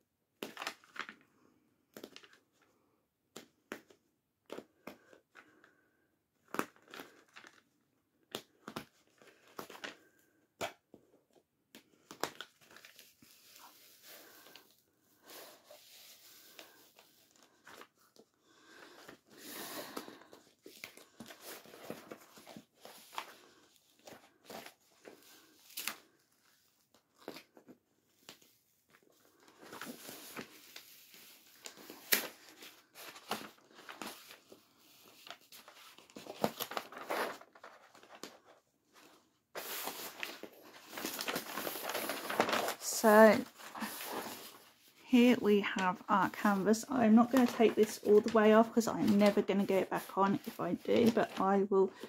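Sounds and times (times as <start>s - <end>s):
plastic film peeling and crinkling: 6.4s - 10.8s, 11.8s - 45.0s, 45.6s - 52.0s.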